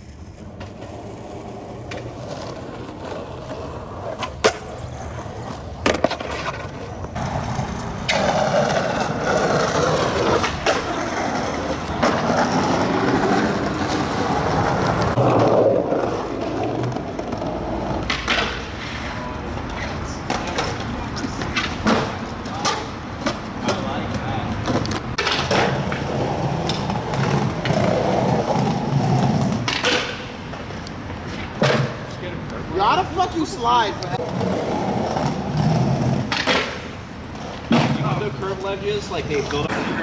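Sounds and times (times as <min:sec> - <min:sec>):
skateboard clacks: 0:00.0 - 0:40.0
skateboard wheels rolling on pavement: 0:00.0 - 0:40.0.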